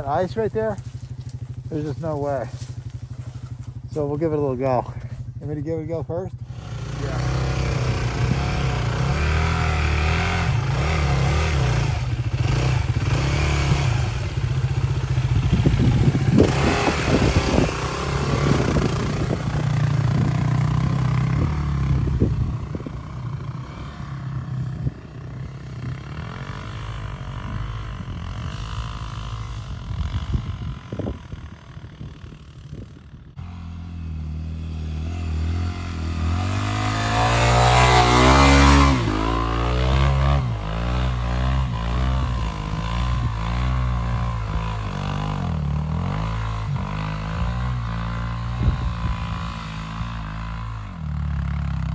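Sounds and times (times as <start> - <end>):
approaching motorbike engine: 0.0 - 51.9
dirt bike engine revving: 0.0 - 51.9.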